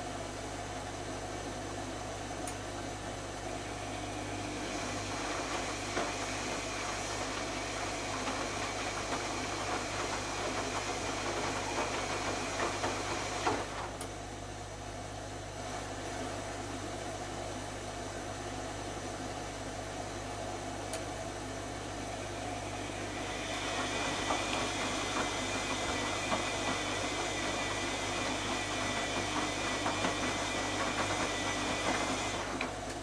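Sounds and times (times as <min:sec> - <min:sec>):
washing machine hum: 0:00.0 - 0:33.0.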